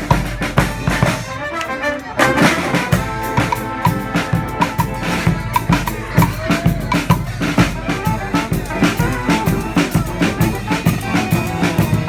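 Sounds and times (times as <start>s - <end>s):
marching band of brass and drums: 0.0s - 12.0s.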